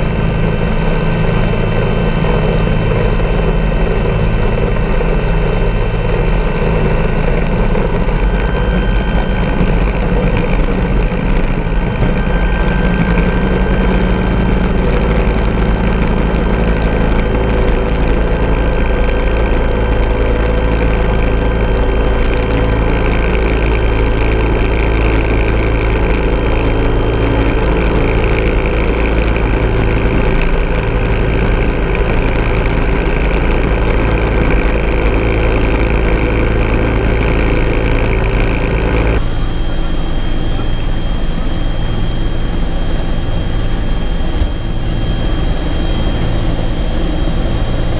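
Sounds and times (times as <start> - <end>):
helicopter rotor and turbine drone: 0.0 - 47.9.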